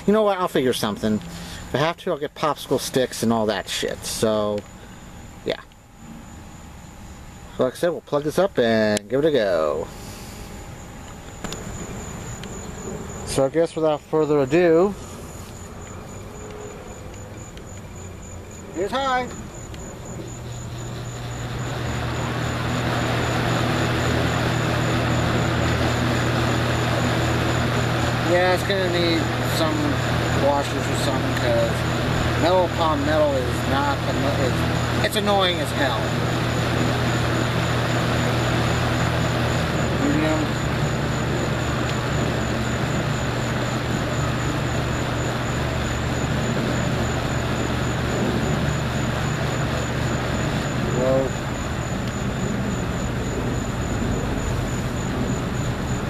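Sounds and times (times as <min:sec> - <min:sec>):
fan blades whirring: 0:00.0 - 0:56.0
fan motor humming: 0:00.0 - 0:56.0.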